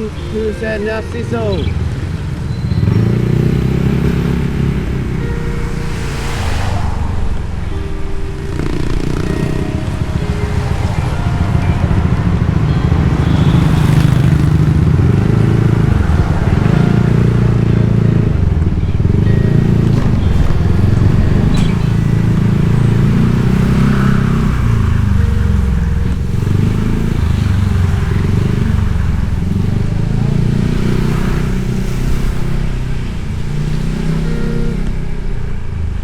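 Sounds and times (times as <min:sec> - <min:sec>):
motorbike engine running: 0:00.0 - 0:06.4, 0:07.1 - 0:36.0
wind and road noise: 0:00.0 - 0:36.0.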